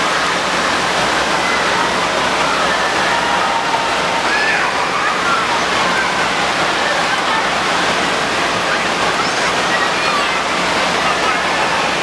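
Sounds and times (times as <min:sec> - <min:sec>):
distant children's voices: 0:00.0 - 0:12.0
rushing water: 0:00.0 - 0:12.0.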